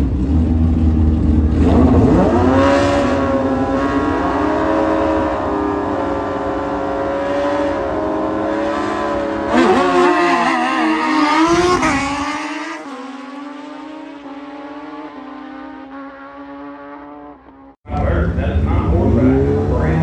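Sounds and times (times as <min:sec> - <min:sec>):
motorbike engines revving: 0:00.0 - 0:20.0.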